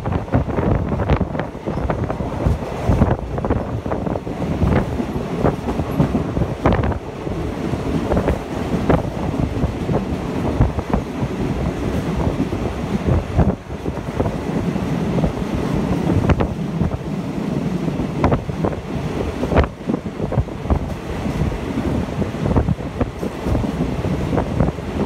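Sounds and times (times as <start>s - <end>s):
train running rumble: 0.0s - 25.0s
wind buffeting microphone: 0.0s - 25.0s.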